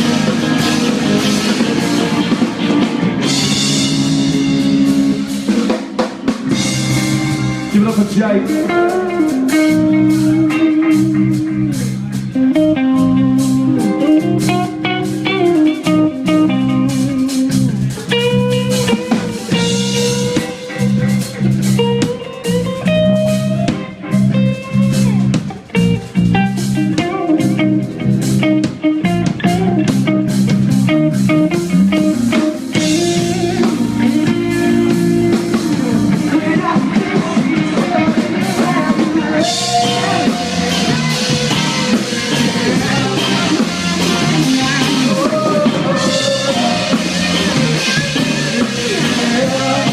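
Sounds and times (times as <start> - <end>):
guitar riff: 0.0 - 49.9
live blues-rock band: 0.0 - 49.9.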